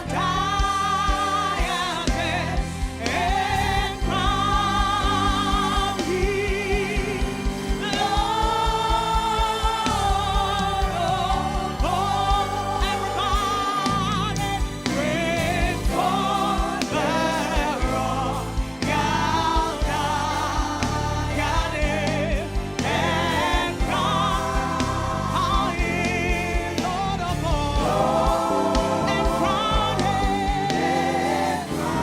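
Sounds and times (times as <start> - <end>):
band with steady bass beat: 0.0 - 32.0
gospel singing: 0.0 - 32.0.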